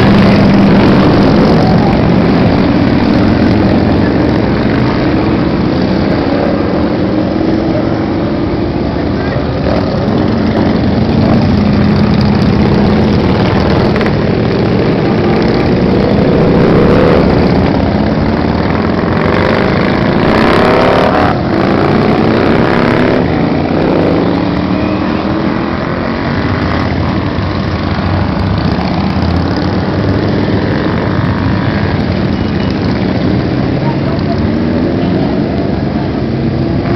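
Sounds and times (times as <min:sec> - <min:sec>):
motorcycle engines revving: 0:00.0 - 0:36.9.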